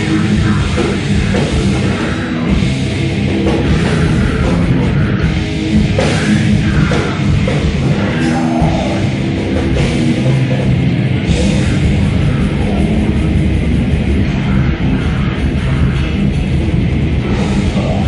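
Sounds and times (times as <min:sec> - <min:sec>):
heavy metal band playing: 0:00.0 - 0:18.0.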